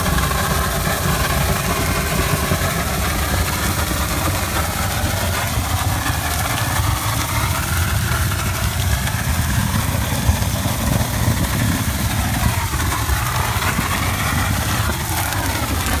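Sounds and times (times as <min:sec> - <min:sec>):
engine drone: 0:00.0 - 0:16.0
even hiss: 0:00.0 - 0:16.0.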